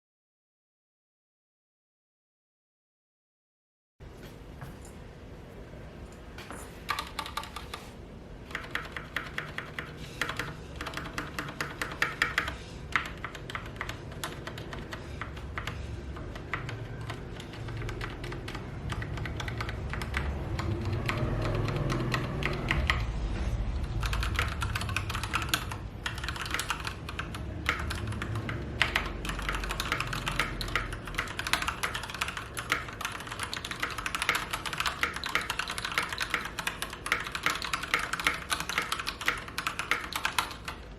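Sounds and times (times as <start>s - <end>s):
mechanical keyboard typing: 6.8s - 23.1s, 23.8s - 40.9s.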